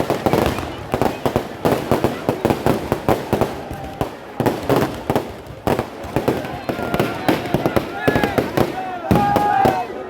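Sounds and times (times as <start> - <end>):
firecrackers banging: 0.0 - 10.0.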